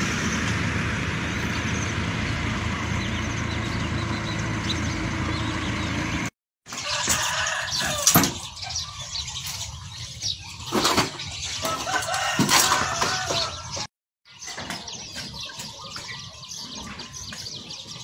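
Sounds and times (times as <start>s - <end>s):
rural background ambience: 0.0s - 18.0s.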